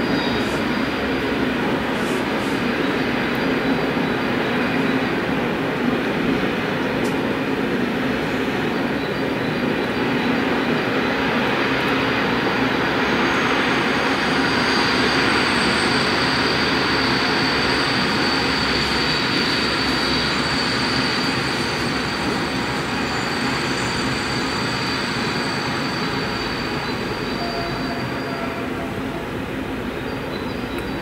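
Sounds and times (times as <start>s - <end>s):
train wheels rumbling and rattling: 0.0s - 31.0s.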